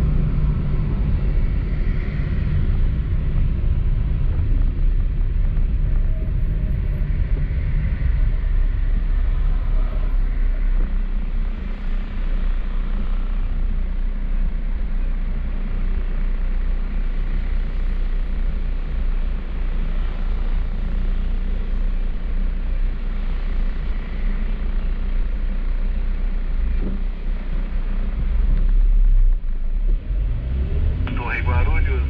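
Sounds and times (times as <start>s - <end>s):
car driving on wet road: 0.0s - 32.0s.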